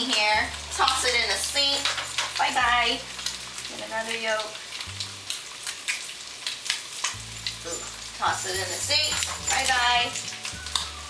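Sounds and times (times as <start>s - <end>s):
fat spattering crackles: 0.0s - 11.0s
food sizzling in pans: 0.0s - 11.0s.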